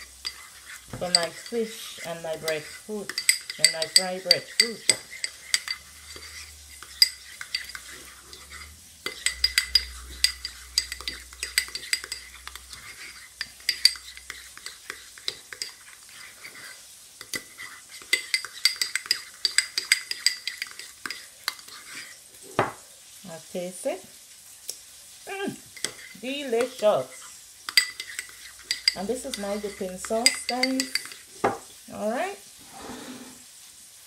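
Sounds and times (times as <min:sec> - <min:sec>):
metal spoon scraping ceramic bowl: 0:00.0 - 0:22.2, 0:25.8 - 0:31.6.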